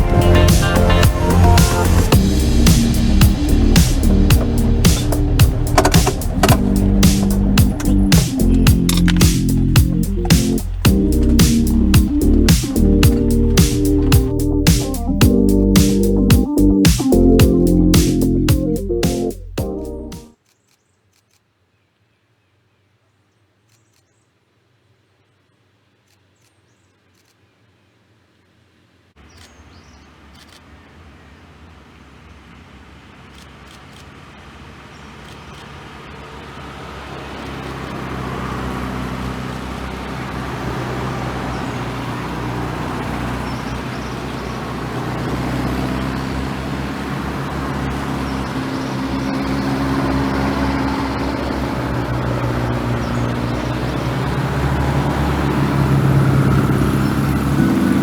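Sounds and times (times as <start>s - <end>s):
car engines running: 0.0s - 20.2s, 29.2s - 58.0s.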